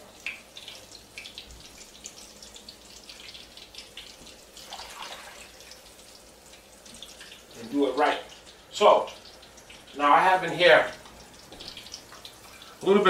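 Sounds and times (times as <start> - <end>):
faint water at a sink: 0.0 - 13.0
water drips and splashes: 0.0 - 13.0.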